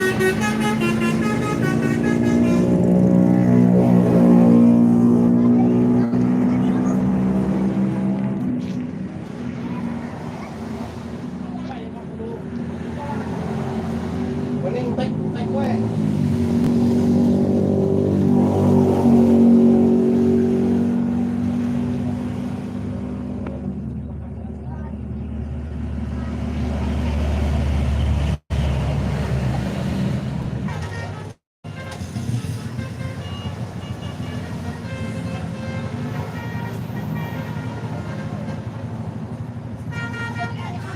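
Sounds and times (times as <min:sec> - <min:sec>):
bus diesel engine passing: 0:00.0 - 0:40.9.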